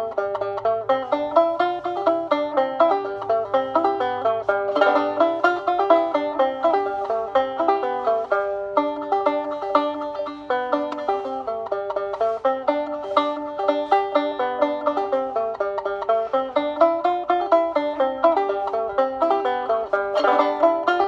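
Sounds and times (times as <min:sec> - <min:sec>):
solo banjo tune: 0:00.0 - 0:21.0.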